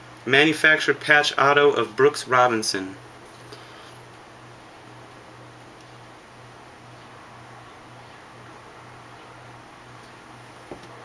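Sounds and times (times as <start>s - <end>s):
faint hiss and hum: 0.0s - 11.0s.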